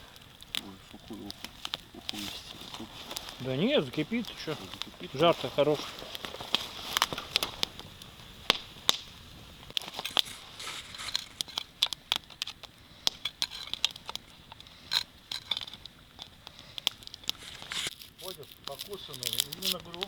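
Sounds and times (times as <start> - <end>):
campfire crackling and snapping: 0.0 - 20.0.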